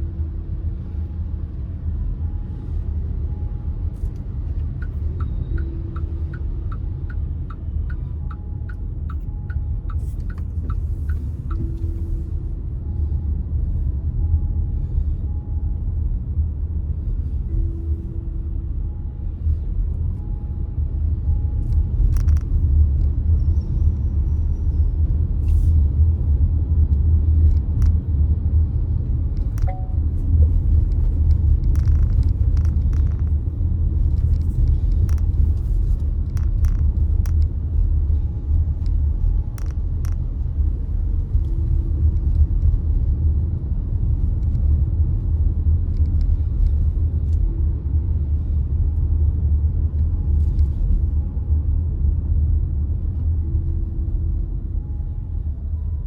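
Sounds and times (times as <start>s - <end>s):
car road and engine drone: 0.0s - 56.0s.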